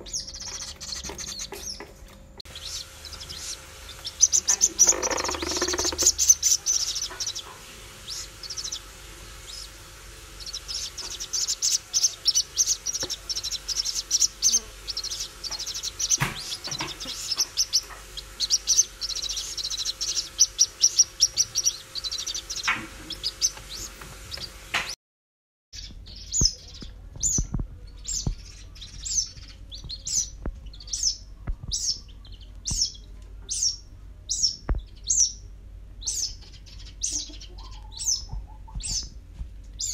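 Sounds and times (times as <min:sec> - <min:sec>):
bird chicks peeping: 0:00.0 - 0:25.0, 0:25.8 - 0:39.9.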